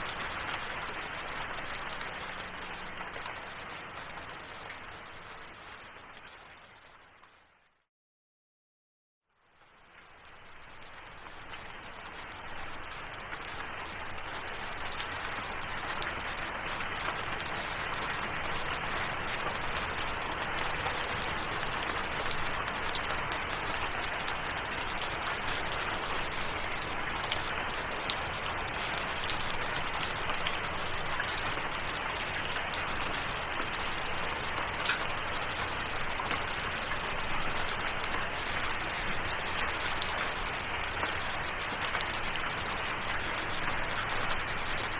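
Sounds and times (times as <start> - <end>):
rain falling: 0.0 - 7.5, 9.6 - 44.9.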